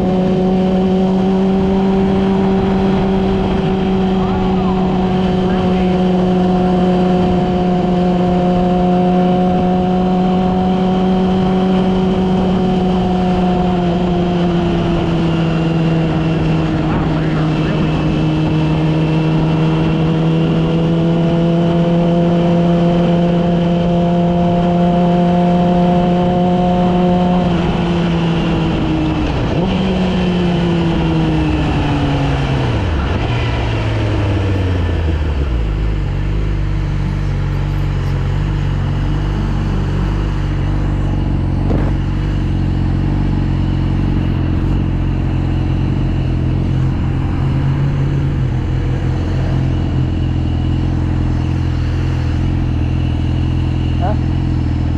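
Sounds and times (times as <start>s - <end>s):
motorcycle engine revving and idling: 0.0s - 54.9s.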